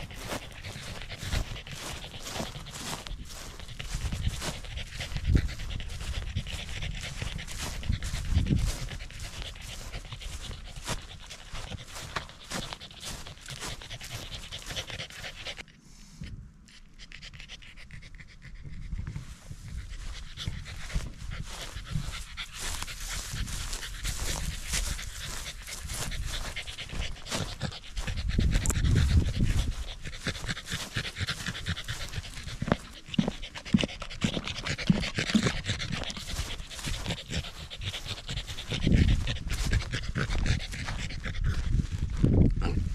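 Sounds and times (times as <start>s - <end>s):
dog panting: 0.0s - 15.7s, 16.7s - 42.9s.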